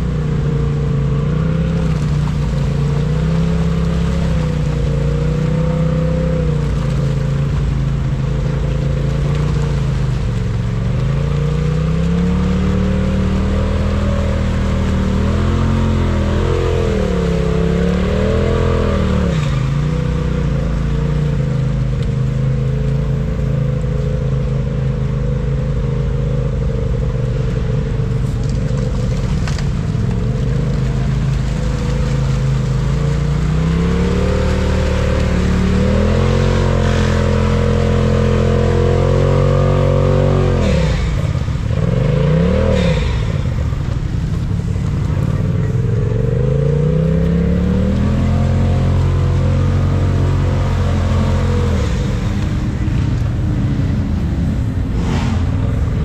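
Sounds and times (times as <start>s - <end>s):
vehicle churning through mud: 0.0s - 56.0s
vehicle engine revving: 0.0s - 56.0s.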